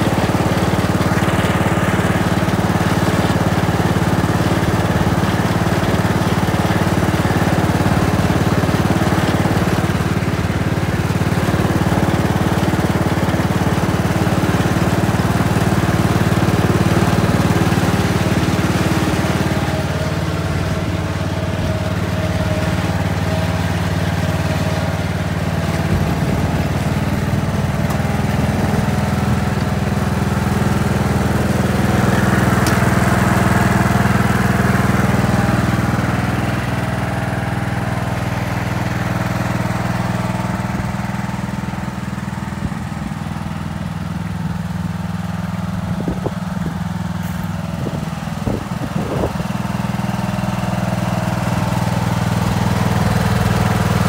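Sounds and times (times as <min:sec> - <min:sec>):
riding mower engine running: 0:00.0 - 0:54.0.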